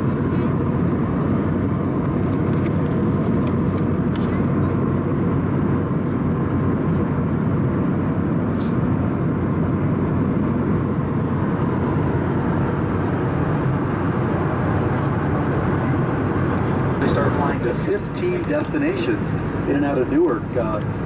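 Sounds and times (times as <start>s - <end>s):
airplane cabin roar: 0.0s - 21.0s.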